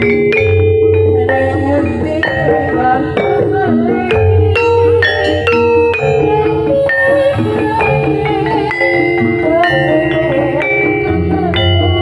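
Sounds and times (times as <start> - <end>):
gamelan ensemble music: 0.0 - 12.0.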